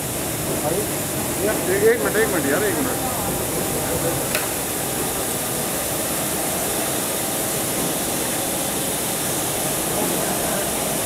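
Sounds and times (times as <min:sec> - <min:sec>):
machinery hiss: 0:00.0 - 0:11.0.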